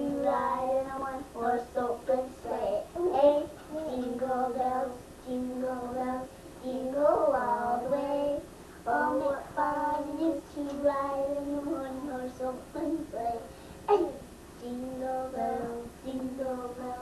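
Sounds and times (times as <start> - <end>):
girls singing a carol: 0.0 - 13.5, 14.6 - 17.0.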